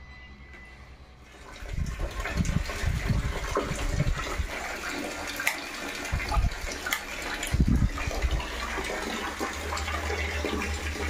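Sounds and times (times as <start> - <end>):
water gushing and splashing: 1.3 - 11.0.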